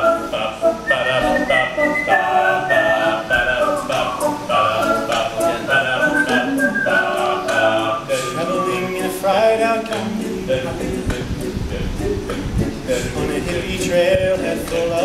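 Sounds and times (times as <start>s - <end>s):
men's a cappella singing: 0.0s - 15.0s
steady vocal beat: 0.0s - 15.0s.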